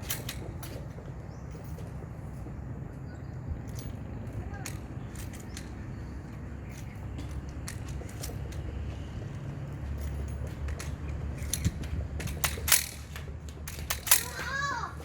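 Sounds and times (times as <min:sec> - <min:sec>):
sharp metallic clicks and clinks: 0:00.0 - 0:02.2, 0:03.6 - 0:14.7.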